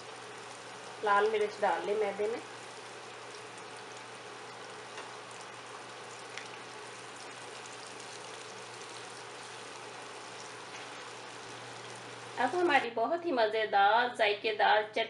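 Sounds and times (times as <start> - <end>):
chicken deep-frying in oil: 0.0 - 12.8
faint crackles: 0.0 - 12.8.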